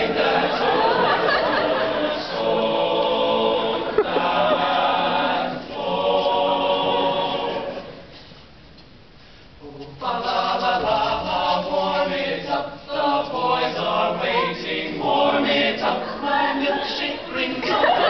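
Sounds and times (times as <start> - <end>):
a cappella choir singing: 0.0 - 8.1, 9.6 - 18.0.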